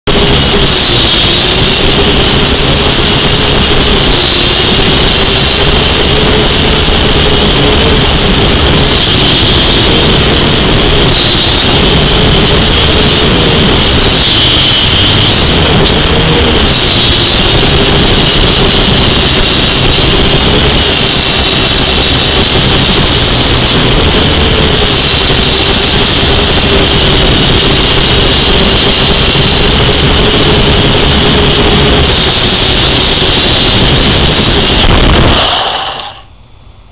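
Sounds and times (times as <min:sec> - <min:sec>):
quadcopter propellers whining: 0:00.0 - 0:36.4.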